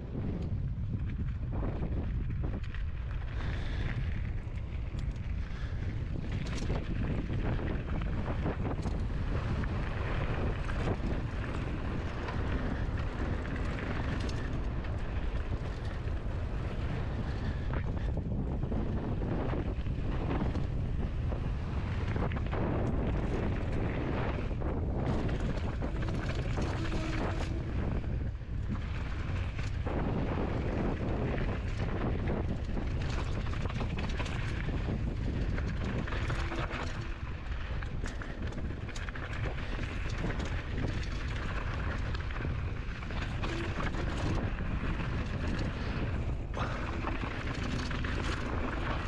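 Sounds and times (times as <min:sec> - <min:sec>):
wind buffeting microphone: 0:00.0 - 0:49.0
bike rattling clicks and knocks: 0:00.2 - 0:49.0
tyres rolling on dirt: 0:01.0 - 0:49.0.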